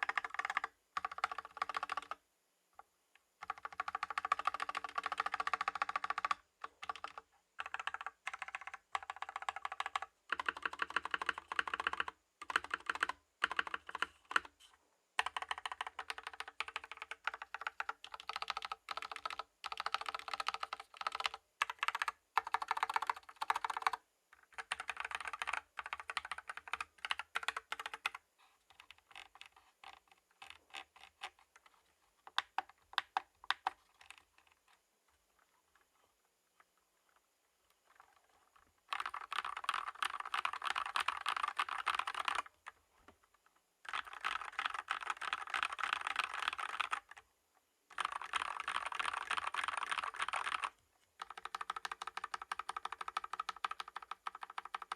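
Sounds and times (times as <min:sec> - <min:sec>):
mechanical keyboard typing: 0:00.0 - 0:02.2, 0:03.4 - 0:14.5, 0:15.2 - 0:34.6, 0:38.9 - 0:42.8, 0:43.8 - 0:47.2, 0:47.9 - 0:54.9.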